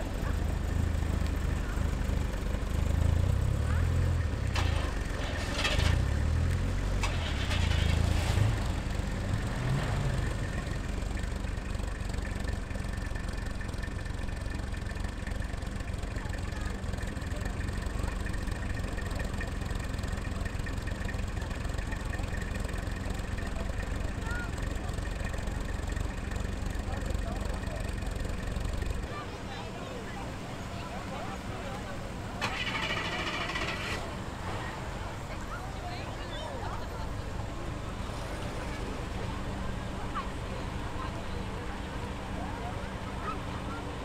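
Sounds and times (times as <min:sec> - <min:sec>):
cars driving slowly past: 0:00.0 - 0:44.0.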